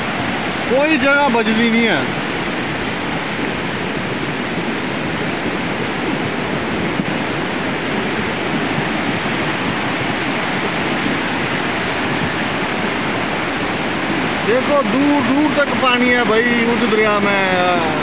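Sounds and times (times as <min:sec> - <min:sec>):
river rushing in flood: 0:00.0 - 0:18.0.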